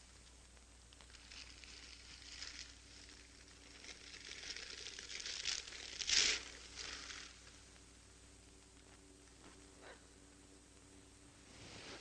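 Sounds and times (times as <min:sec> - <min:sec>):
soft rustling and crinkling: 0:00.0 - 0:12.0.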